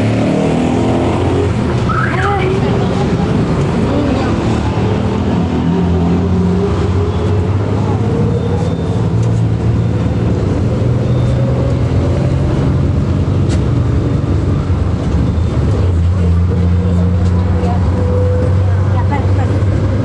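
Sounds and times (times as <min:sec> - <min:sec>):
bus engine hum: 0:00.0 - 0:20.0.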